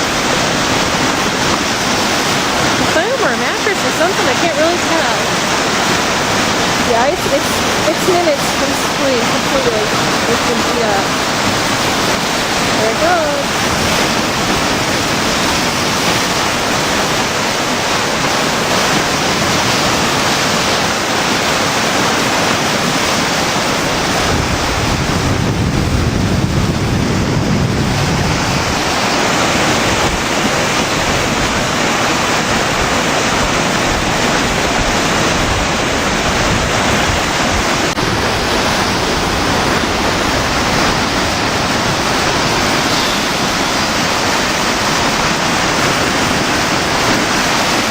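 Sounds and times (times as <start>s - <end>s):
floodwater rushing over dam: 0.0s - 47.9s
wind buffeting microphone: 0.0s - 47.9s.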